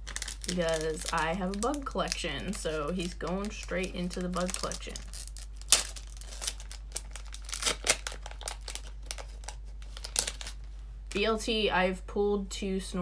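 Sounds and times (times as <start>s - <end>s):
sharp crackle of packaging: 0.0s - 11.2s
trading cards rustling: 0.0s - 11.2s.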